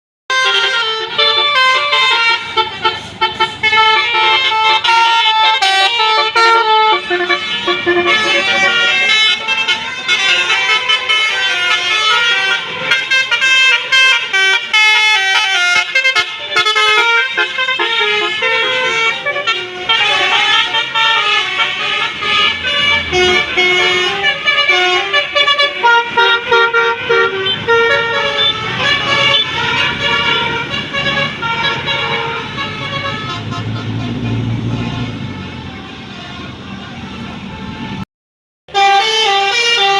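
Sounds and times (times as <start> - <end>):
multi-tone bus horn melody: 0.3 - 38.0, 38.7 - 39.9.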